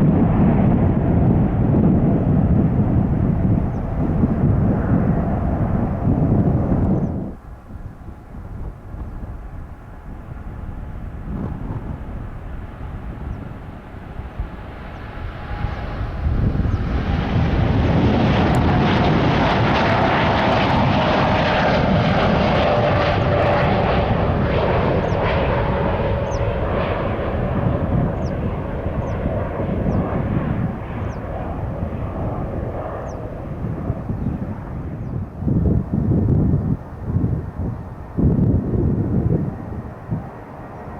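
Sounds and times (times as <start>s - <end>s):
jet engine whine: 0.0s - 40.9s
jet engines roaring: 0.0s - 40.9s.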